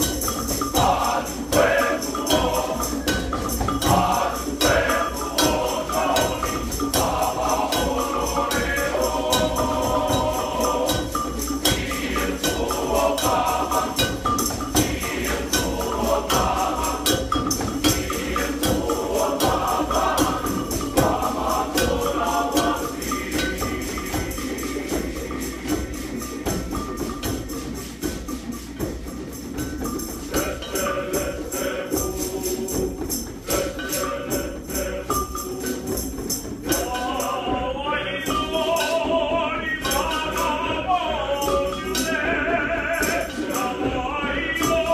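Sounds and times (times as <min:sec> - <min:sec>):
hand drums beating: 0:00.0 - 0:44.9
jingling percussion: 0:00.0 - 0:44.9
men's choir singing: 0:00.0 - 0:44.9.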